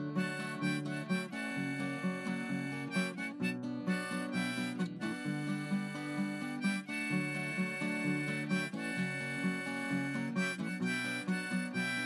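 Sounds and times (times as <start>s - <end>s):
acoustic guitar: 0.0s - 12.0s
harmonica: 0.0s - 12.0s.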